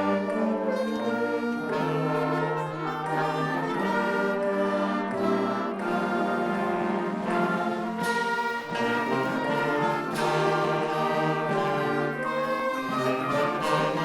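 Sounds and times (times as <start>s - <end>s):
brass ensemble slow chords: 0.0s - 14.0s.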